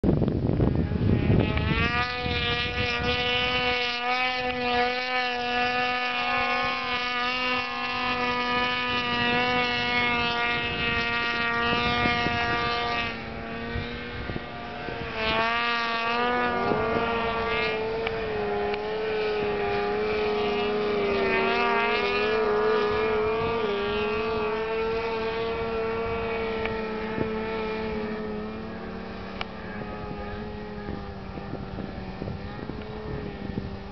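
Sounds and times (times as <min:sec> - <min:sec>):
snowmobile engine at high revs: 0:00.0 - 0:33.9.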